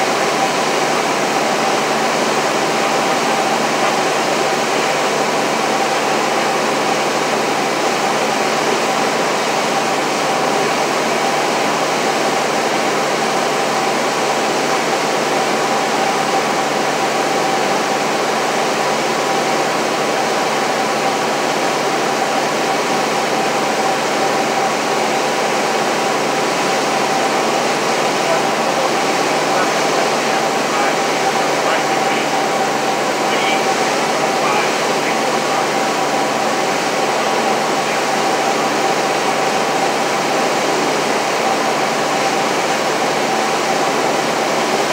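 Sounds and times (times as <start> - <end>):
airplane engine and propeller drone: 0.0 - 44.9.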